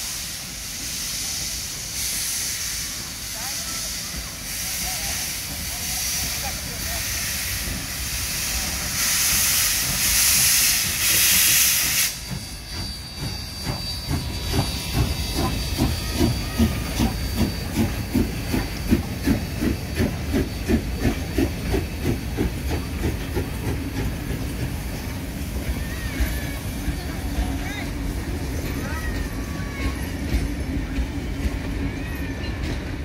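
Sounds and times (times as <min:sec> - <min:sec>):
steam hissing: 0:00.0 - 0:33.0
train wheels clacking on track: 0:00.0 - 0:33.0.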